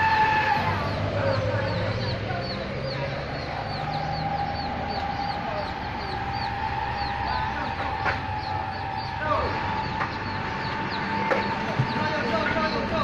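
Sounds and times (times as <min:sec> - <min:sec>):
bird peeping: 0:00.8 - 0:13.0.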